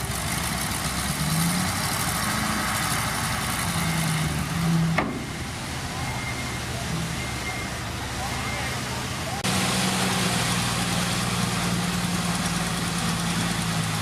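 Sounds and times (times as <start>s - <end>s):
heavy machinery diesel engine: 0.0s - 14.0s.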